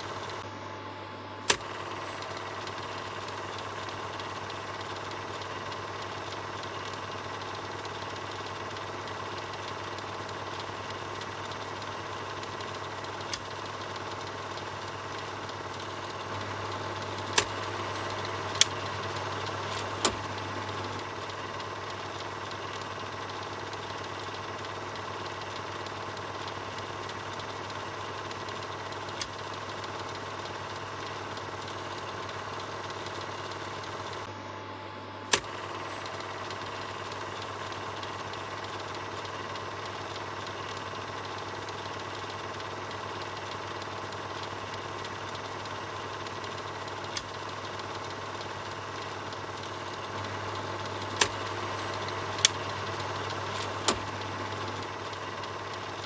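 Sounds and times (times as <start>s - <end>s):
sharp projector clicks: 0.0s - 0.5s, 1.4s - 34.3s, 35.3s - 56.0s
film projector whirring: 0.0s - 56.0s.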